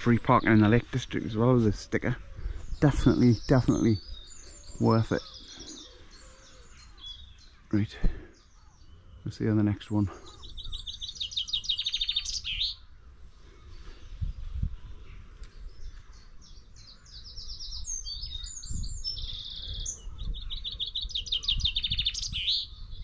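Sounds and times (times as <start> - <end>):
songbirds trilling: 0.0 - 23.0.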